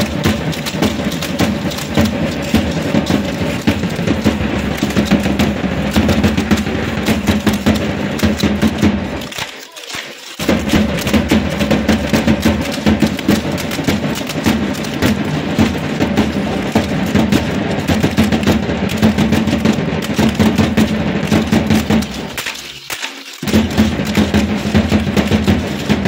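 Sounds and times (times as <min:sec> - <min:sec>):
dancers stepping: 0:00.0 - 0:26.0
rattles clicking: 0:00.0 - 0:26.0.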